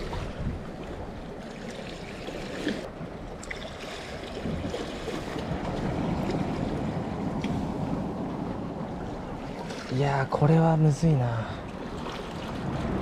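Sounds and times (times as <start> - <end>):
seawater sloshing around concrete: 0.0 - 10.5, 11.6 - 13.0.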